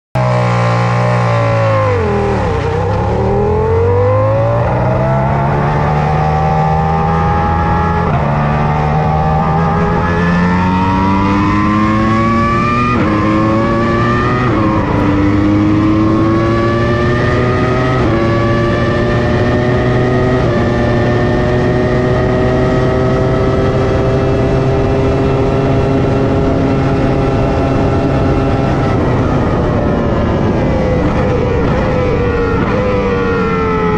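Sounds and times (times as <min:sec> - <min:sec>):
race car engine accelerating: 0:00.2 - 0:33.9.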